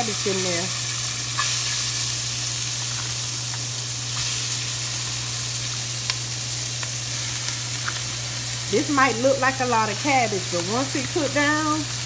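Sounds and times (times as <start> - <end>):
cabbage sizzling in hot fat: 0.0 - 12.0.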